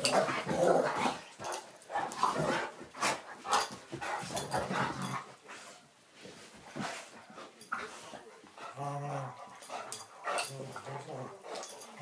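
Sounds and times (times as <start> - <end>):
dogs play-fighting: 0.0 - 12.0.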